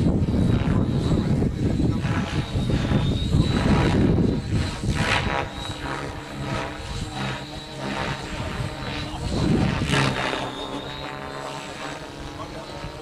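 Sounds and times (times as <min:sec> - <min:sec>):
high whine: 0:00.0 - 0:13.0
rotor blades whooshing: 0:00.0 - 0:13.0
steady motor hum: 0:00.0 - 0:13.0.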